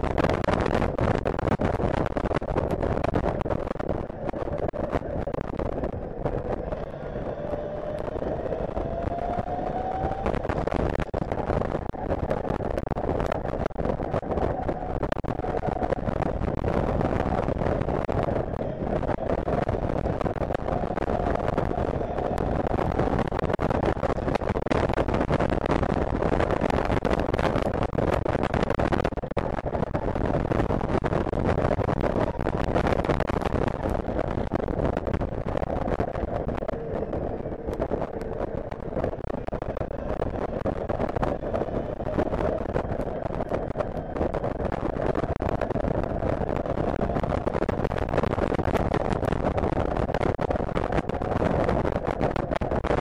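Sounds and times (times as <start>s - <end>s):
wind rush on microphone: 0.0s - 53.0s.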